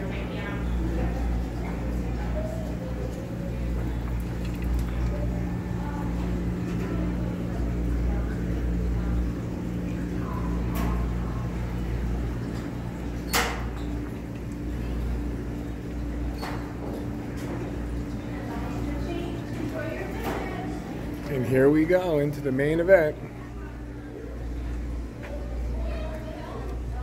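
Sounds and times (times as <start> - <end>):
faint indistinct voices: 0.0 - 27.0
steady low hum: 0.0 - 27.0.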